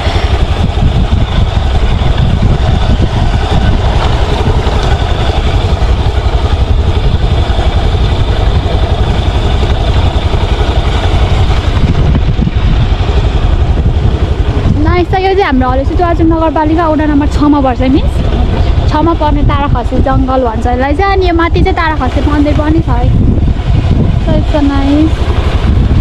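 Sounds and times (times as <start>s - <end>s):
heavy low rumble: 0.0s - 26.0s
motorcycle engine on dirt track: 0.0s - 26.0s.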